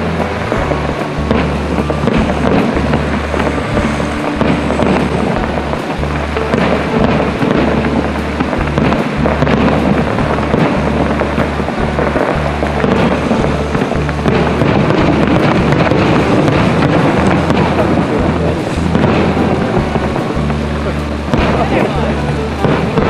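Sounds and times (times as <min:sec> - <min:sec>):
distant firework bursts rumbling: 0:00.0 - 0:23.0
faint firework crackling: 0:00.0 - 0:23.0.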